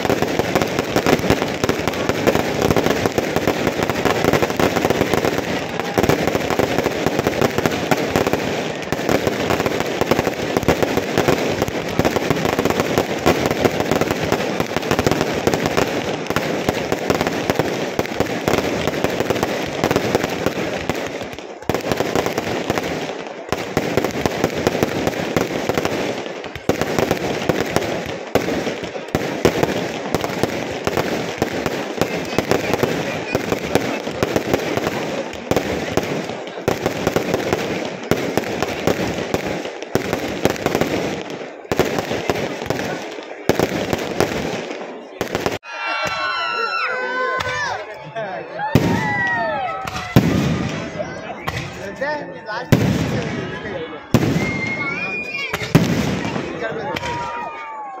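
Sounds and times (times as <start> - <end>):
fireworks crackling and banging: 0.0 - 46.5, 47.2 - 58.0.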